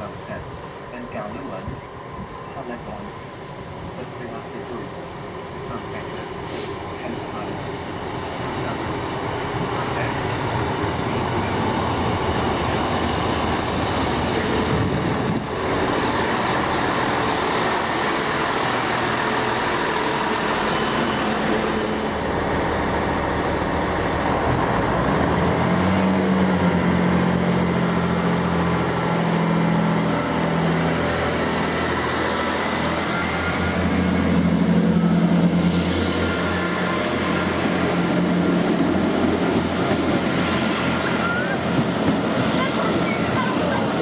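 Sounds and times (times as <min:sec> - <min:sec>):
train wheels and engine rumbling: 0:00.0 - 0:44.0.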